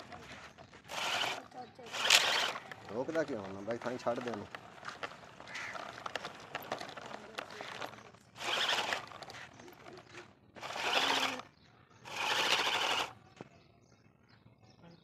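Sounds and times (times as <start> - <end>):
toy tractor scraping over dirt: 0.0 - 13.2.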